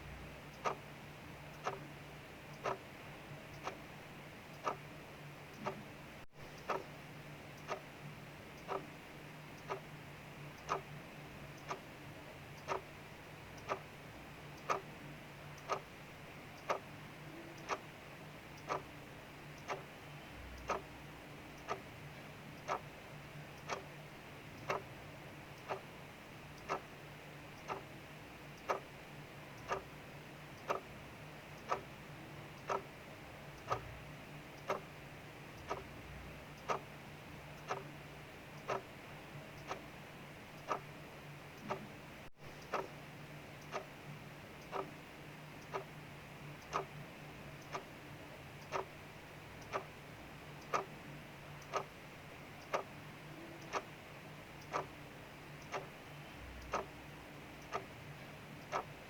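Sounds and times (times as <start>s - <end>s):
clock ticking: 0.3s - 59.0s.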